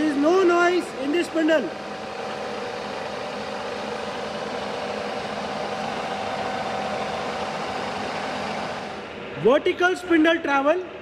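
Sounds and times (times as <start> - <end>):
milling machine spindle running: 0.0 - 9.4.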